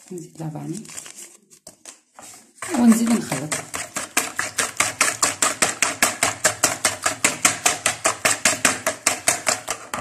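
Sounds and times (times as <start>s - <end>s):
whisk beating batter in plastic bowl: 1.2s - 10.0s.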